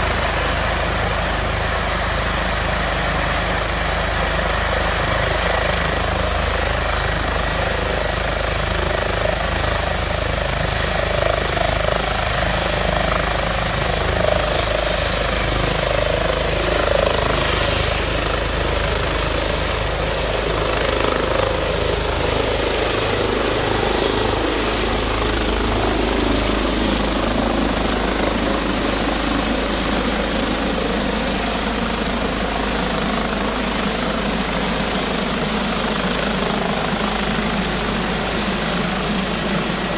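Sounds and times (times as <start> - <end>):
helicopter rotor and turbine noise: 0.0 - 39.9
high turbine whine: 0.0 - 39.9.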